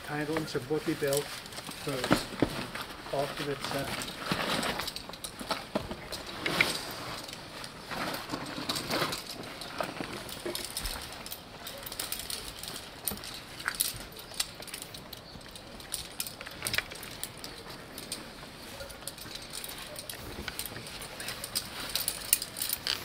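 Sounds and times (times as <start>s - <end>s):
metal buckles and carabiners clinking: 0.0s - 23.0s.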